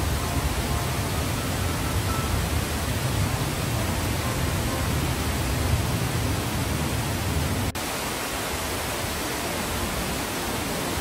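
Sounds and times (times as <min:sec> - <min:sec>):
water rushing over weir: 0:00.0 - 0:11.0.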